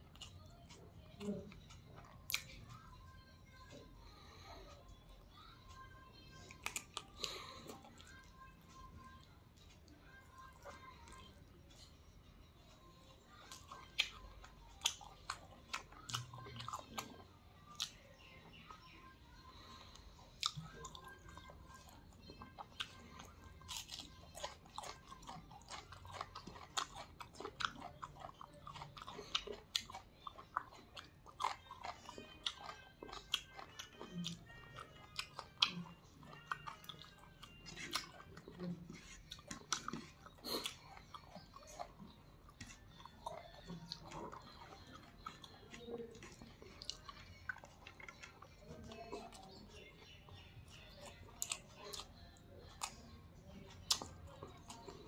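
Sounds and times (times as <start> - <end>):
wet chewing and lip smacks: 0.0 - 2.9, 6.3 - 12.0, 12.9 - 18.9, 19.6 - 55.0.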